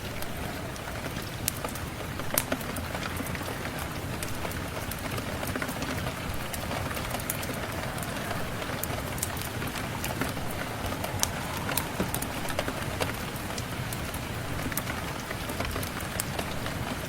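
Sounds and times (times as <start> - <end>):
steady rain falling: 0.0 - 17.0
wood fire crackling and popping: 0.0 - 17.0.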